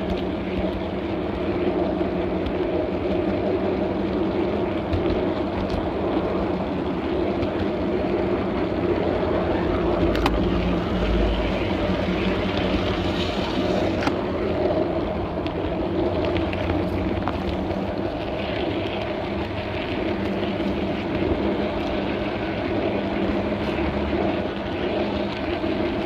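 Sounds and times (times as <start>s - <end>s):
model train mechanical hum: 0.0s - 26.0s.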